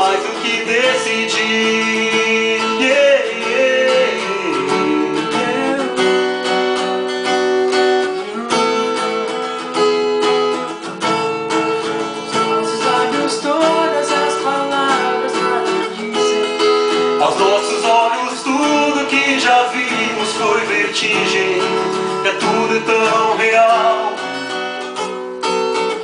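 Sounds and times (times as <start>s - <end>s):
pop song with guitar: 0.0s - 26.0s.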